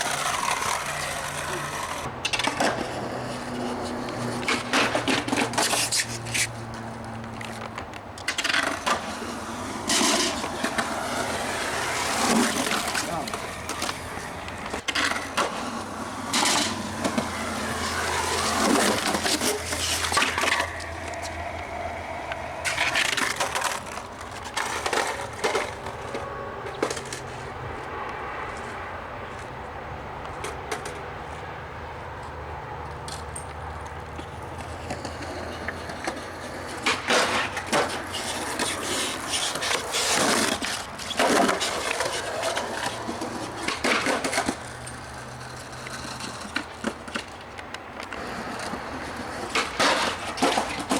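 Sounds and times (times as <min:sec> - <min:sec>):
skateboard popping and landing: 0:00.0 - 0:26.2, 0:34.6 - 0:50.9
skateboard wheels rolling: 0:00.0 - 0:50.9.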